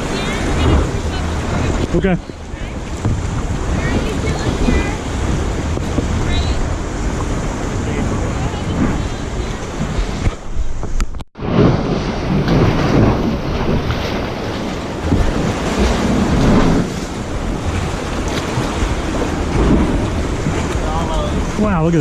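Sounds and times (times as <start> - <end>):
lake waves sloshing: 0.0 - 22.0
wind buffeting microphone: 0.0 - 22.0.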